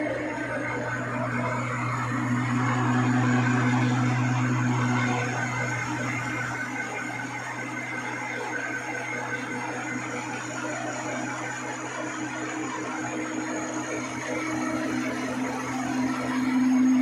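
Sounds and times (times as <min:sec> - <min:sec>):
milling machine hum: 0:00.0 - 0:17.0.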